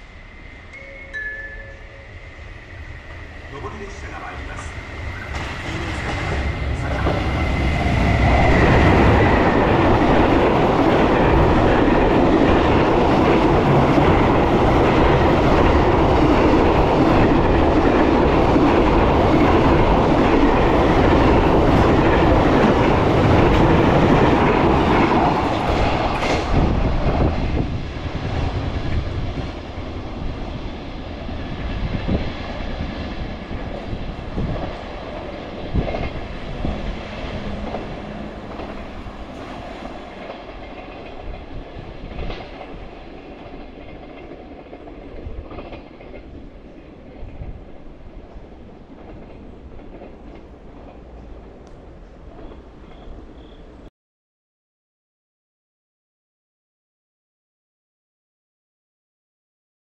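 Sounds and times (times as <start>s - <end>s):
freight train passing: 0.0s - 53.9s.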